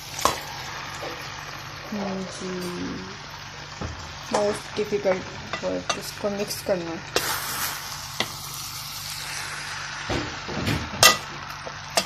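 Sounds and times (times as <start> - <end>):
noodles sizzling in a pan: 0.0 - 12.0.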